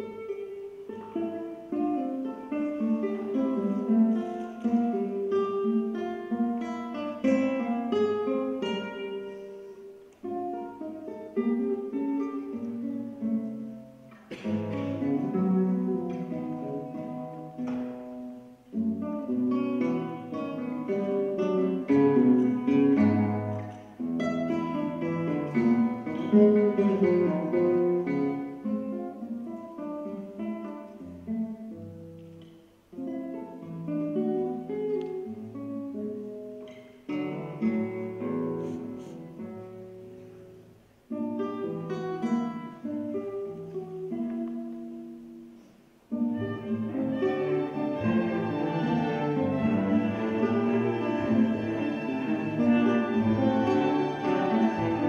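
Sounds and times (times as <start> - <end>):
classical guitar playing: 0.0 - 55.0.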